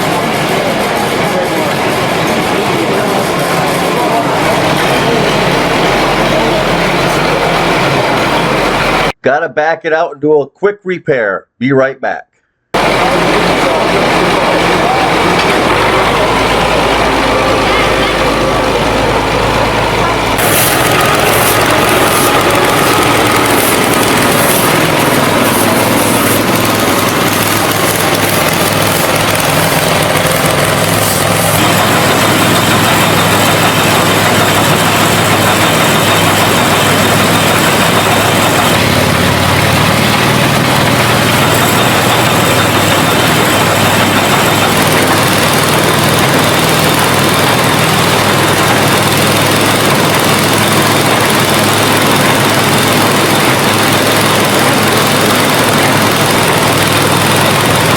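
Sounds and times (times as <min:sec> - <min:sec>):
engine running: 0:00.0 - 0:09.2, 0:12.7 - 0:57.9.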